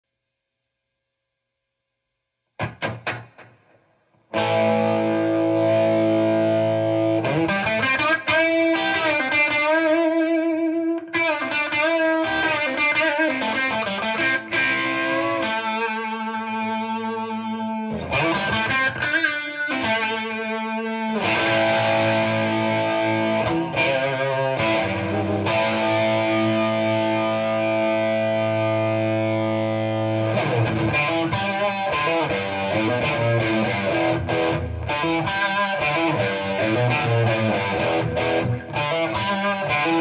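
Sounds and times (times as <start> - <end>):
distorted electric guitar: 2.6 - 40.0.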